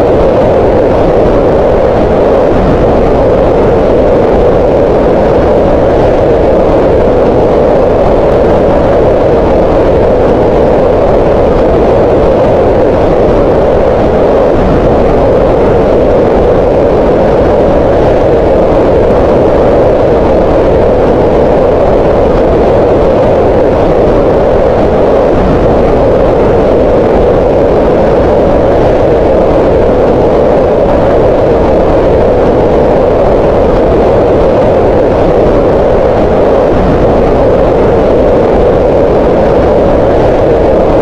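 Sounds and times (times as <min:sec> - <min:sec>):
green noise: 0:00.0 - 0:41.0.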